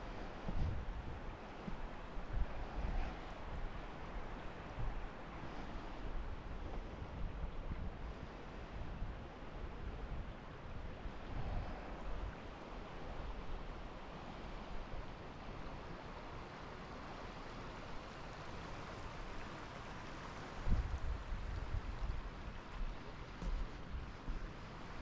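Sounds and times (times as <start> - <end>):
wind buffeting microphone: 0.0 - 15.9, 20.4 - 25.0.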